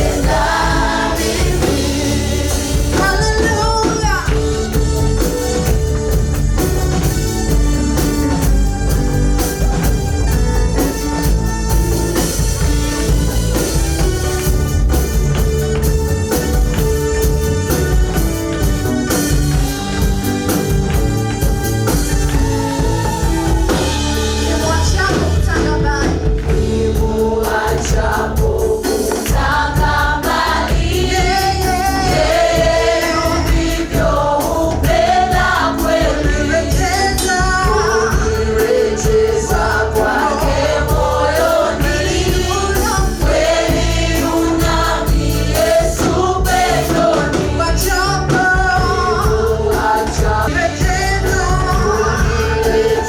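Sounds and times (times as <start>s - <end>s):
band playing: 0.0s - 53.0s
gospel choir singing: 0.0s - 53.0s.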